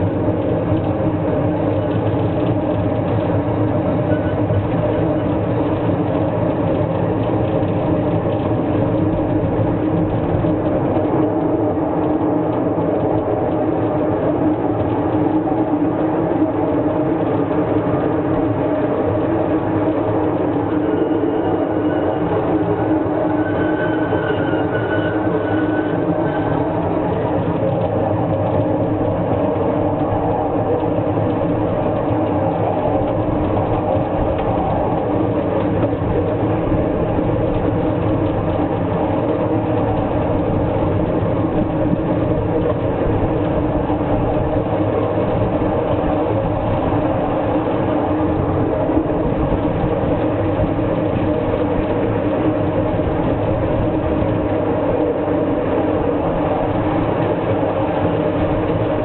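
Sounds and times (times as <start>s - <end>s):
miniature train motor hum: 0.0s - 59.0s
train wheels running on track: 0.0s - 59.0s.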